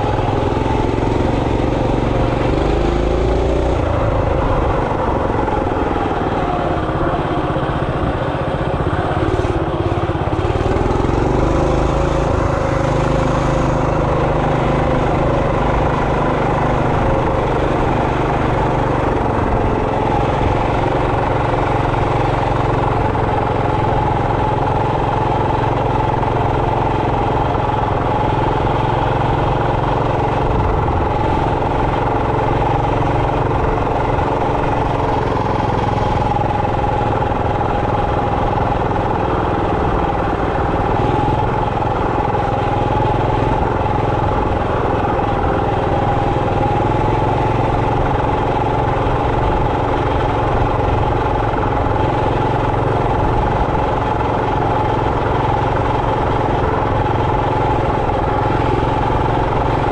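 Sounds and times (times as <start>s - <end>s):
minibike engine running: 0.0s - 59.9s.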